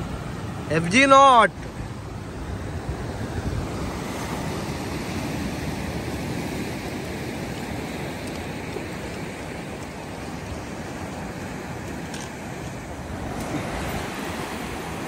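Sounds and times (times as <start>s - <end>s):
surf washing over rocky shore: 0.0s - 15.0s.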